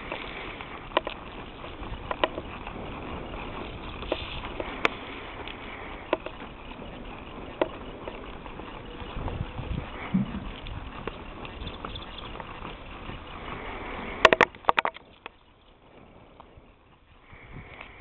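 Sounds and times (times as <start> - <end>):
hoof and tack clicks: 0.0 - 18.0.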